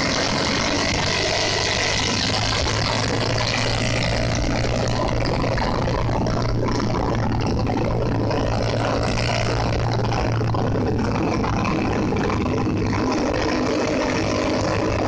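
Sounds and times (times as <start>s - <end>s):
motorcycle engine humming: 0.0s - 15.0s
wind and road noise: 0.0s - 15.0s.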